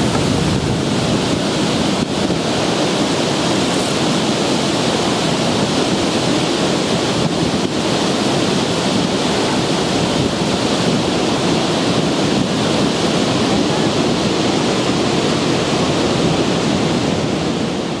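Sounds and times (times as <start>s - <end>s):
rush of falling water: 0.0s - 18.0s.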